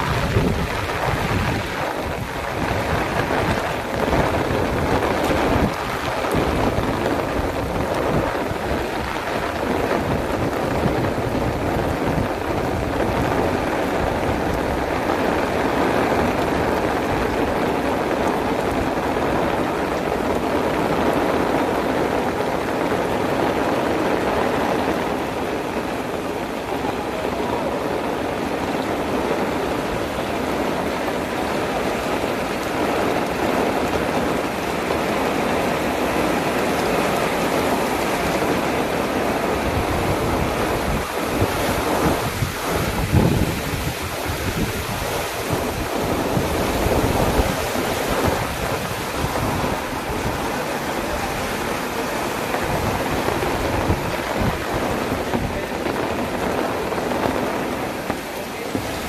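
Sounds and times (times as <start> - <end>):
heavy rain pouring: 0.0 - 59.0
low rumbling gusts: 0.0 - 59.0
strong wind gusts: 0.0 - 59.0.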